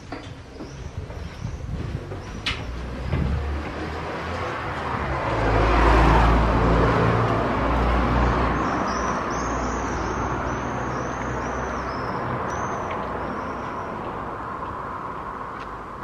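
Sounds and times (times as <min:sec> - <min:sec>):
steady low traffic rumble: 0:00.0 - 0:16.0
car passing: 0:02.6 - 0:16.0.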